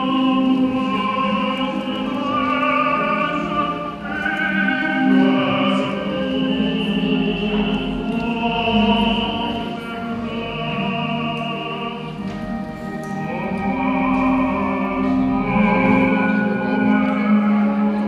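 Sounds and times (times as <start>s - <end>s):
operatic singing with music: 0.0s - 18.0s.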